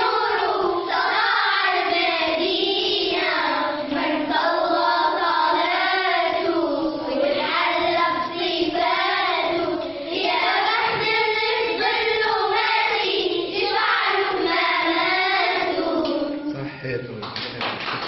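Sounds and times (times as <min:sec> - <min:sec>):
children singing in chorus: 0:00.0 - 0:16.5.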